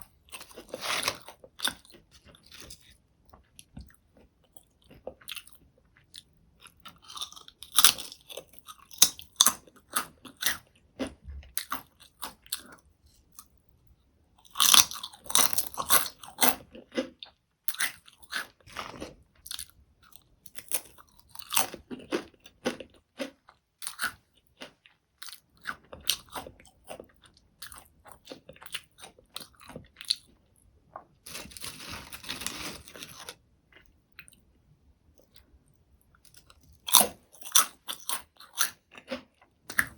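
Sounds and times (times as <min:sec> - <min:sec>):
crunching potato chips: 0:00.0 - 0:12.8, 0:14.4 - 0:34.4, 0:36.3 - 0:39.9.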